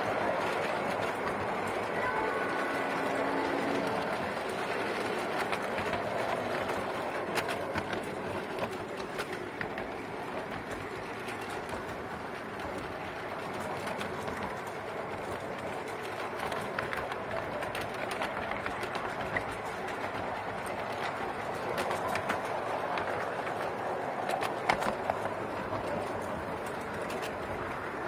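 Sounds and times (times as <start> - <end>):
miniature train wheels rolling: 0.0 - 28.0
sharp clicks over rails: 0.0 - 28.0.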